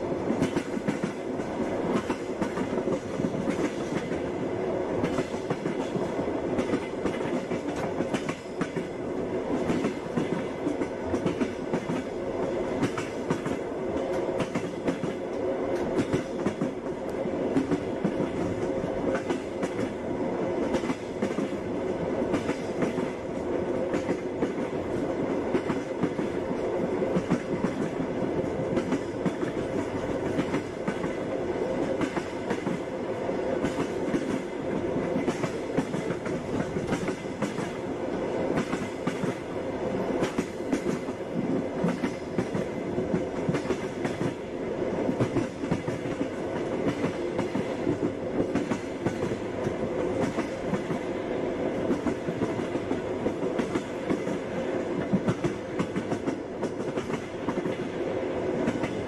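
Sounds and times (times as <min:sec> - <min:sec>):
passenger train rumbling: 0:00.0 - 0:59.0
train wheels clattering on rails: 0:00.0 - 0:59.0.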